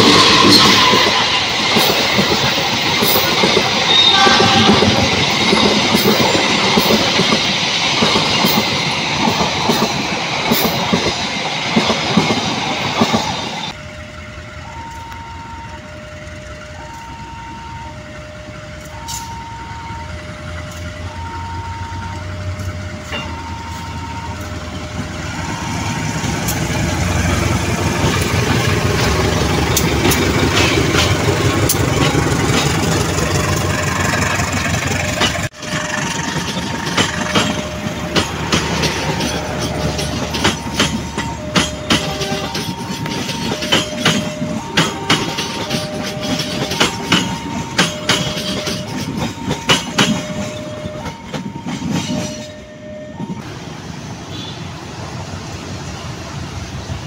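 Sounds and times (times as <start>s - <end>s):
clickety-clack of train wheels: 0.0s - 13.8s, 14.8s - 53.5s
level-crossing warning bell: 0.0s - 54.5s
locomotive engine rumble: 0.0s - 57.0s.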